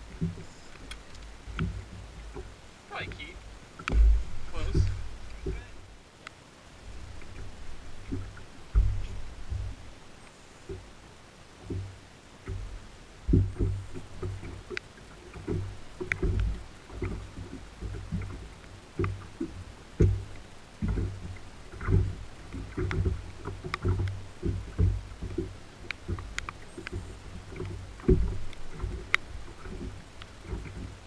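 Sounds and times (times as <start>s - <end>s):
waves slapping against boat hull: 0.0s - 31.0s.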